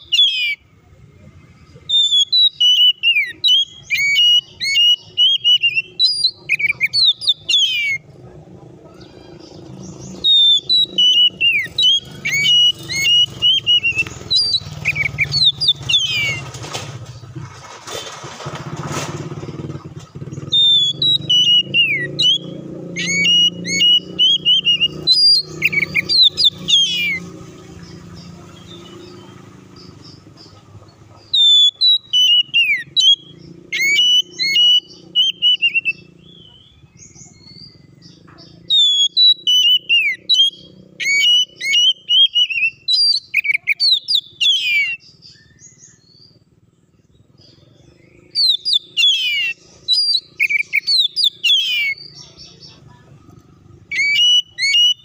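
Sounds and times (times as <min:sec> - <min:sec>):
bird singing whistled phrases: 0:00.0 - 0:00.7, 0:01.8 - 0:08.1, 0:09.0 - 0:16.4, 0:20.4 - 0:30.2, 0:31.2 - 0:46.3, 0:47.4 - 0:52.8, 0:53.8 - 0:55.0
vehicle engine rumbling: 0:00.0 - 0:55.0.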